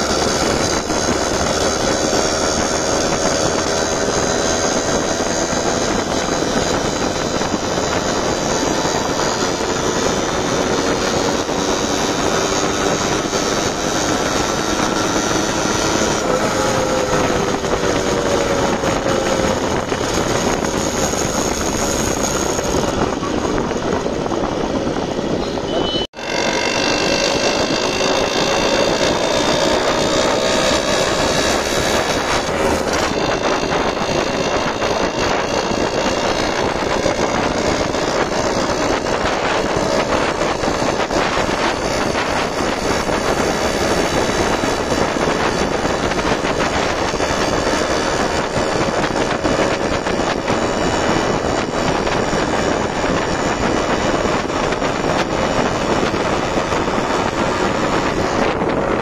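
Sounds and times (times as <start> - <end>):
two-stroke motorcycle engine running: 0.0 - 59.0
wind rushing past microphone: 0.0 - 59.0.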